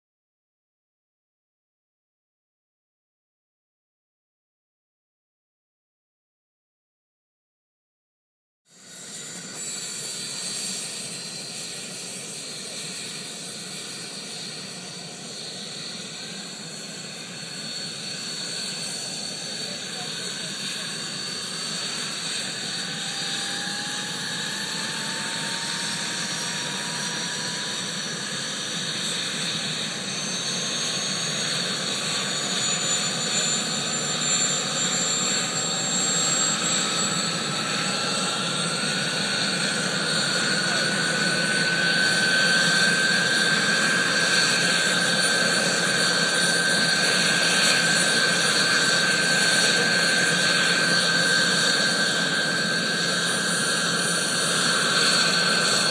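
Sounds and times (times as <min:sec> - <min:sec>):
model gas turbine whine: 0:08.7 - 0:55.9.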